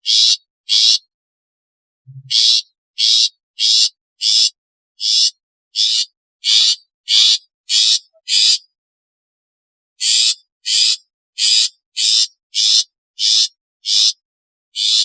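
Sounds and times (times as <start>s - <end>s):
bird giving harsh rasping calls: 0.0s - 1.1s, 2.2s - 8.8s, 10.0s - 14.2s, 14.8s - 15.0s.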